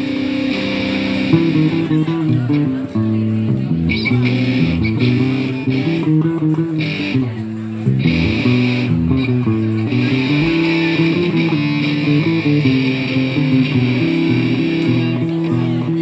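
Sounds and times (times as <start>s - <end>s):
bass guitar: 0.0s - 16.0s
distorted electric guitars: 0.0s - 16.0s.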